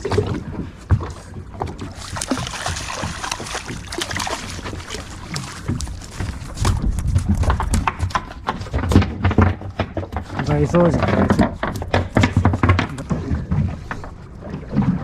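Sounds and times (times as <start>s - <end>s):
fish thrashing and splashing: 1.3s - 15.0s.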